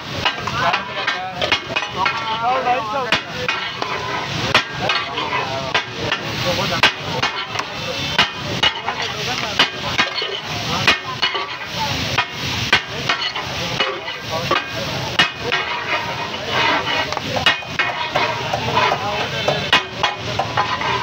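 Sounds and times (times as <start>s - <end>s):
food sizzling: 0.0s - 21.0s
metal spatula clacking on griddle: 0.2s - 21.0s.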